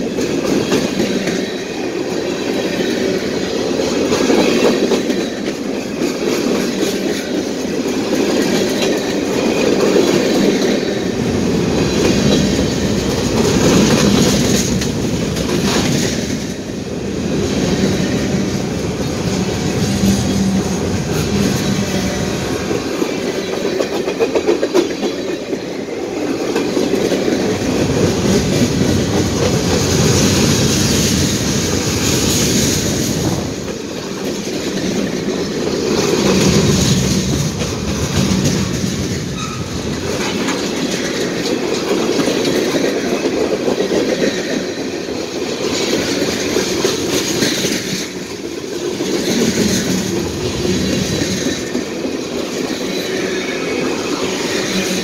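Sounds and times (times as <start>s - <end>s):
freight train wheels rumbling: 0.0s - 55.0s
rail clicks and rattles: 0.0s - 55.0s.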